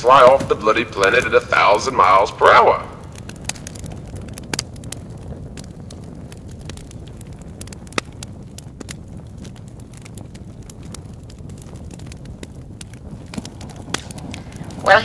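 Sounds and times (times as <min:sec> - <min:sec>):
crackling clicks: 0:00.0 - 0:15.0
low rumble: 0:00.0 - 0:15.0.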